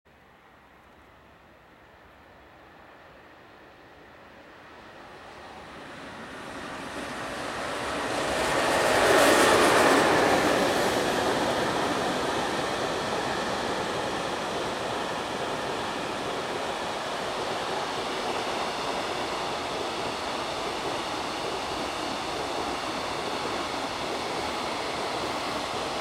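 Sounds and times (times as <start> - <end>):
freight train passing: 0.2 - 26.0.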